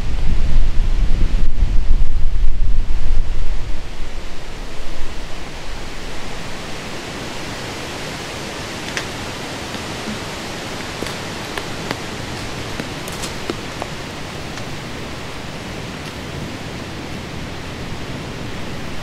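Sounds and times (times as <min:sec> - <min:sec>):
wind gusting on microphone: 0:00.0 - 0:19.0
wind hissing through woods: 0:00.0 - 0:19.0.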